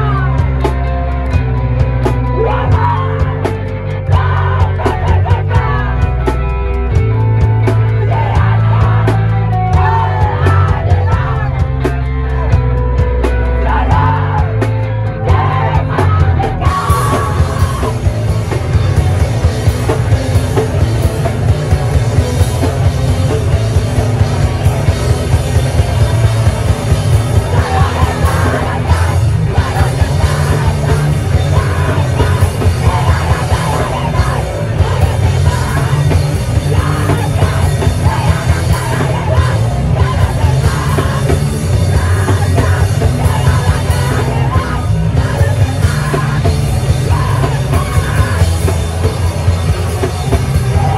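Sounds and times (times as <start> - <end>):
live punk rock band: 0.0 - 50.9
yelled vocals: 0.0 - 50.9.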